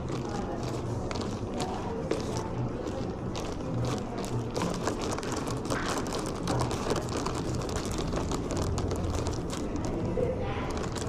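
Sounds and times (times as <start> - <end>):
crunching and chewing crispy bread: 0.0 - 11.0.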